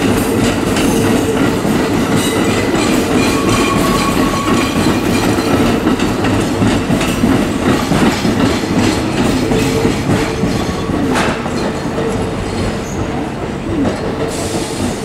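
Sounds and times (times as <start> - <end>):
wheels clattering over rail joints: 0.0 - 13.3
train running hum: 0.0 - 15.0.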